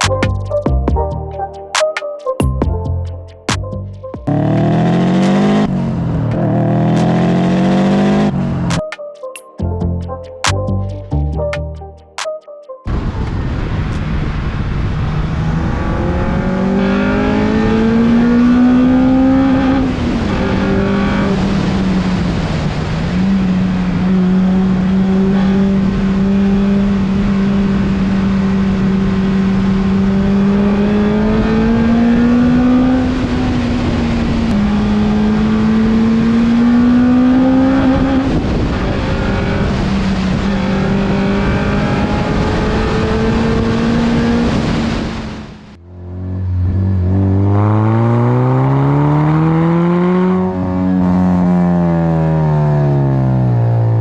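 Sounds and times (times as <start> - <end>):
car engine accelerating: 3.0 - 8.8, 12.9 - 54.0.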